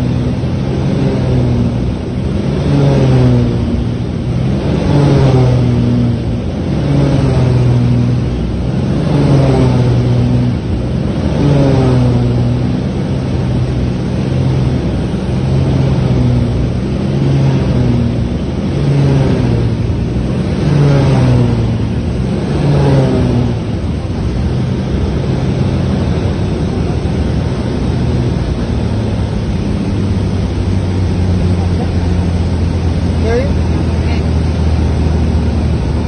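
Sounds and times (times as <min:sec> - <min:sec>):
airplane cabin drone: 0:00.0 - 0:36.0.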